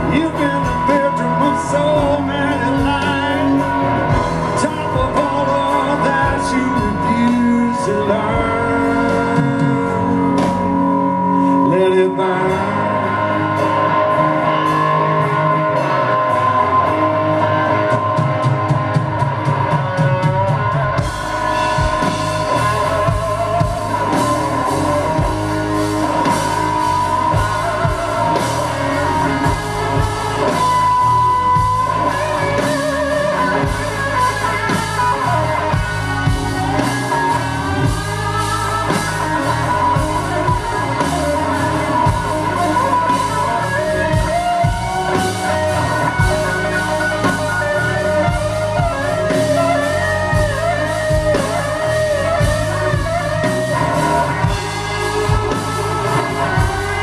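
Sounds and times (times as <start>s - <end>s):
bass guitar: 0.0s - 57.0s
drums and cymbals: 0.0s - 57.0s
electric guitar: 0.0s - 57.0s
keyboards: 0.0s - 57.0s.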